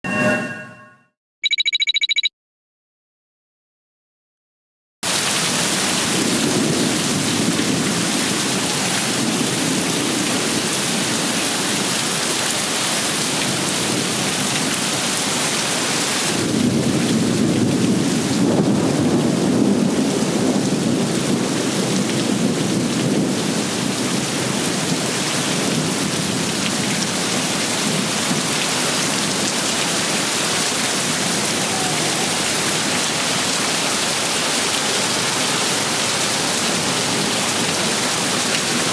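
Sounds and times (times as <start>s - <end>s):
heavy rain pouring: 5.0s - 38.9s.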